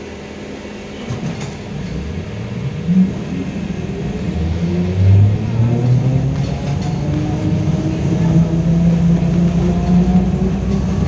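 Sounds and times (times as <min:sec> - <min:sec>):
trolleybus motor whine: 0:00.0 - 0:11.0.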